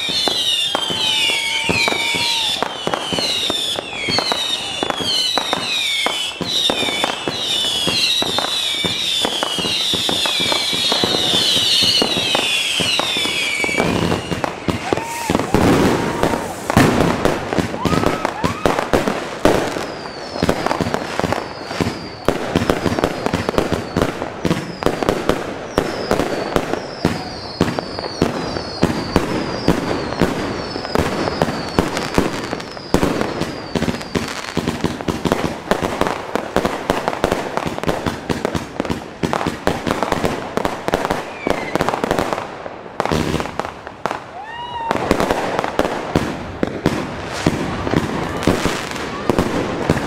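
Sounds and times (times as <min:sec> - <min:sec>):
high falling firework whistles: 0:00.0 - 0:38.6, 0:39.2 - 0:42.3, 0:43.1 - 0:50.0
firework barrage with crackling: 0:00.0 - 0:50.0.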